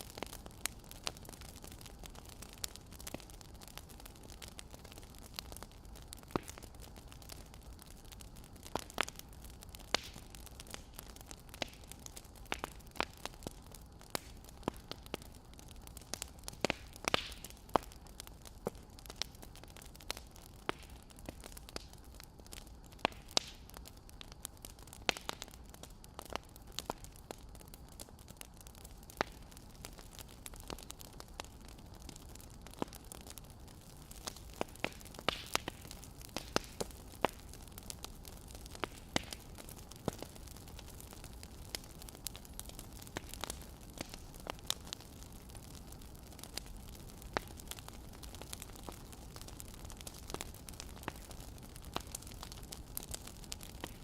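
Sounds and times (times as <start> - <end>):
fire low hiss: 0.0 - 54.0
wood fire crackling: 0.0 - 54.0.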